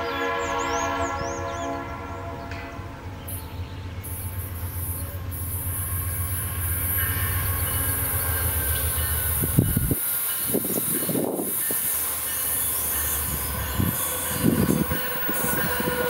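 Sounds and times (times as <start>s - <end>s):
locomotive engine rumble: 0.4s - 16.0s.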